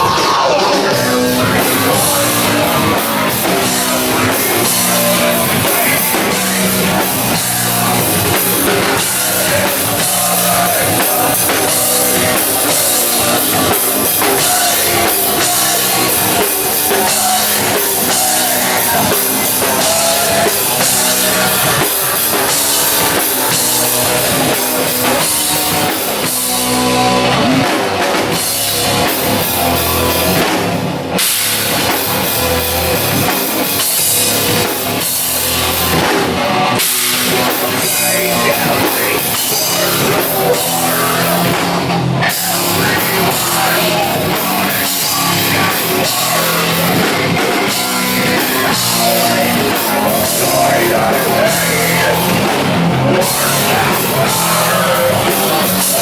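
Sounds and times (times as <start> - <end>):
drum kit: 0.0 - 56.0
rock band playing: 0.0 - 56.0.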